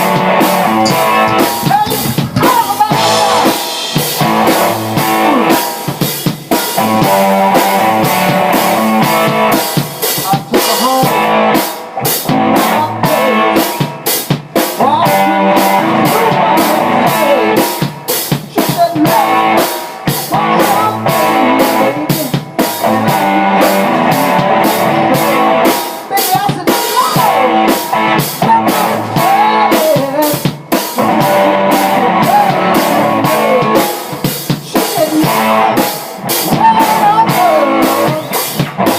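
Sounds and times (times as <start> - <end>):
band playing rock music: 0.0 - 38.9
drum kit beat: 0.0 - 38.9.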